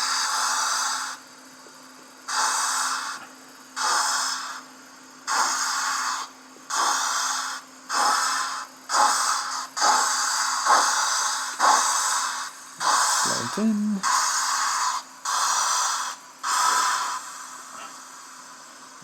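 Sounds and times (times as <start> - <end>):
steam hiss: 0.0 - 1.3, 2.2 - 19.0
steam locomotive exhaust chuffs: 0.0 - 19.0.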